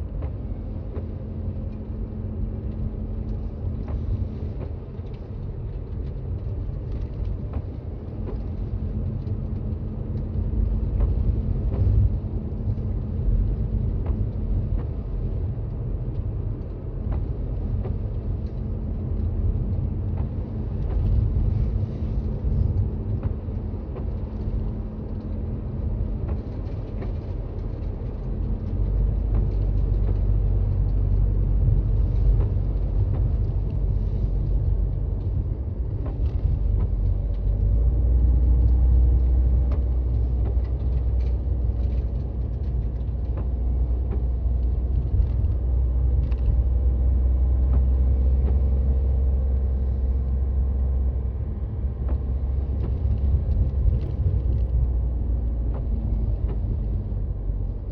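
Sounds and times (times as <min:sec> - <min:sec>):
constant low hum: 0:00.0 - 0:57.9
tyres rumbling on snowy road: 0:00.0 - 0:57.9.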